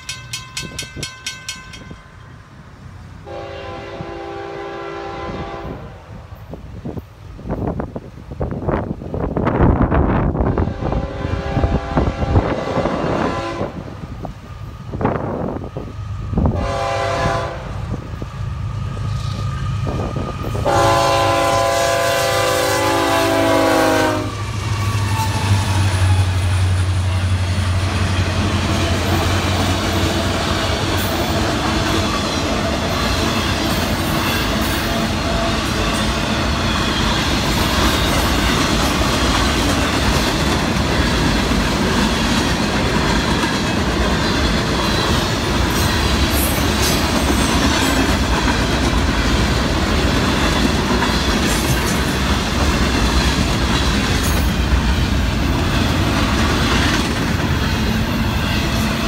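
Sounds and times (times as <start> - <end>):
train wheels rumbling and clattering: 0.0 - 2.2, 6.4 - 59.0.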